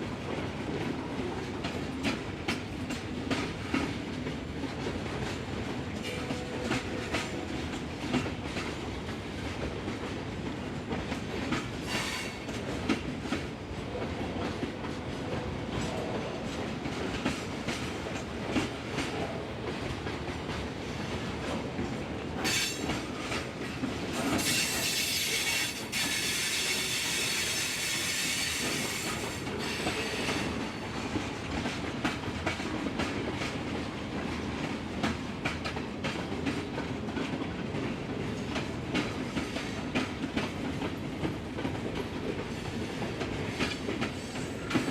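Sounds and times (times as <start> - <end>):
train wheels clicking on rails: 0.0 - 44.9.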